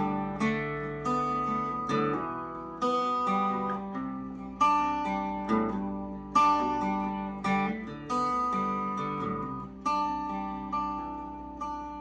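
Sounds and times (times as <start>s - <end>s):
acoustic guitar strummed slowly: 0.0s - 12.0s.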